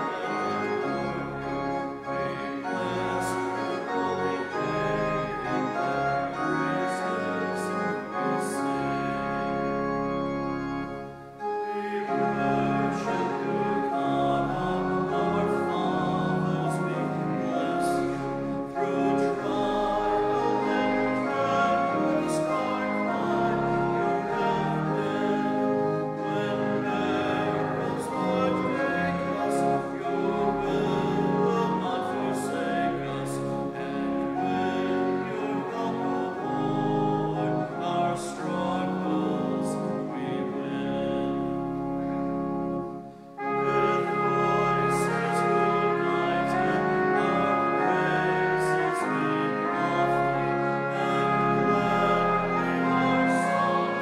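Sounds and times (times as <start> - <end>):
congregation singing: 0.0 - 54.0
organ playing hymn chords: 0.0 - 54.0.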